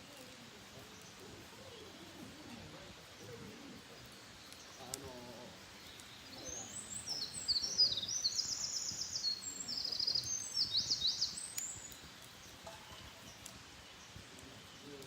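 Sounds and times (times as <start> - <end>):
songbird singing rapid trills: 0.0 - 15.0.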